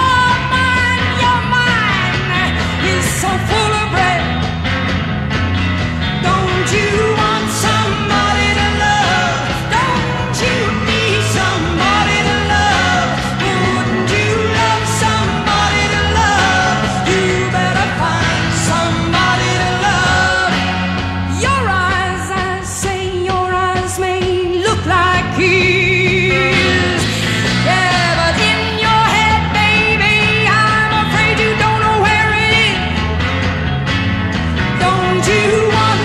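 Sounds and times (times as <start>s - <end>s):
steady drum beat: 0.0s - 31.2s
rock song with lead vocal: 0.0s - 36.0s.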